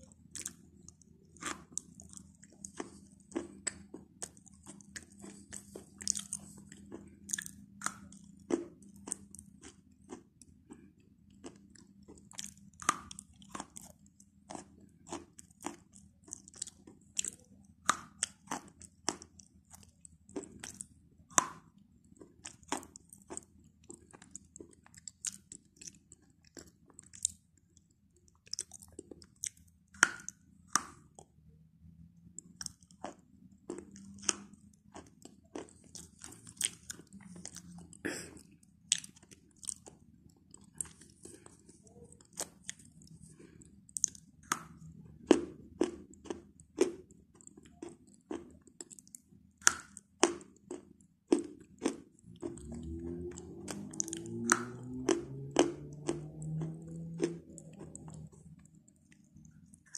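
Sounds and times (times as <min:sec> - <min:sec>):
mushy chewing: 0:00.1 - 0:31.3, 0:32.3 - 0:59.9.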